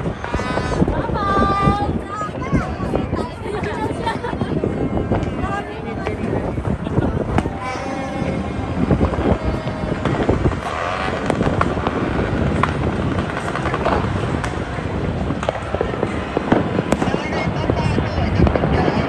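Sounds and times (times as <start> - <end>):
fireworks crackling and popping: 0.0 - 19.0
fireworks rumble: 0.0 - 19.0.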